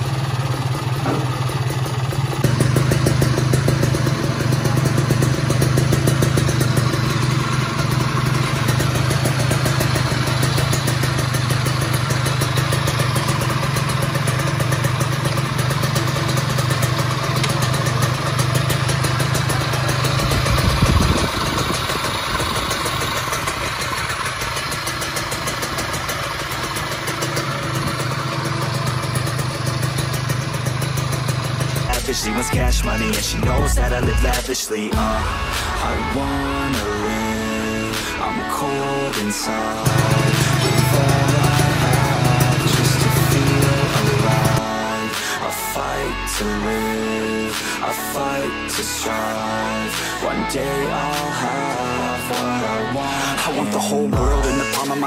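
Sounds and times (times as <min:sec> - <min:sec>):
two-stroke engine idling: 0:00.0 - 0:55.0.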